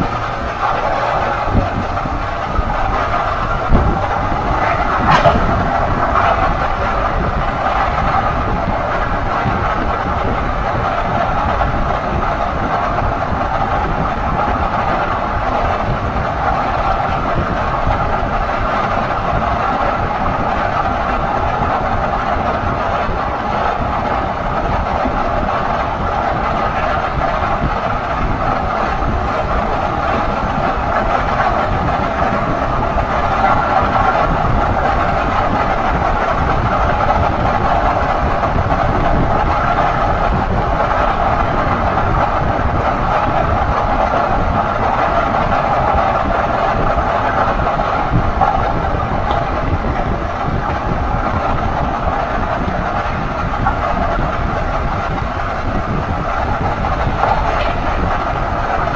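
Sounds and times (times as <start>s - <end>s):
low road rumble: 0.0s - 58.9s
steady whirring drone: 0.0s - 58.9s.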